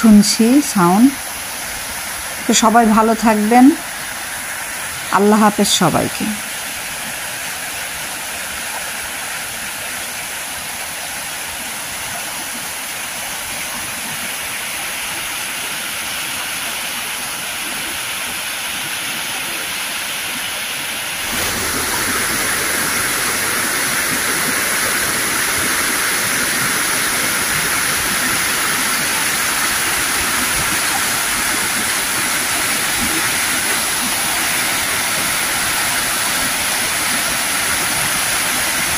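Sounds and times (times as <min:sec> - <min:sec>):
water rushing over rapids: 0:00.0 - 0:38.9.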